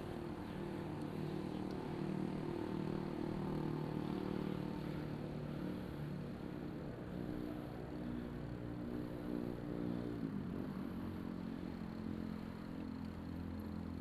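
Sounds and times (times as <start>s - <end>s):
road and wind noise: 0.0s - 14.0s
vehicle engine running: 0.0s - 14.0s.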